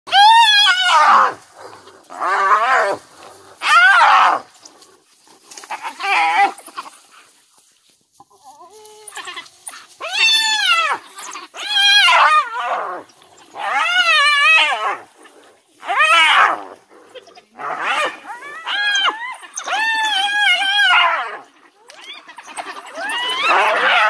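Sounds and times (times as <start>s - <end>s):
wild dogs high-pitched cries: 0.1s - 7.4s, 8.2s - 24.0s.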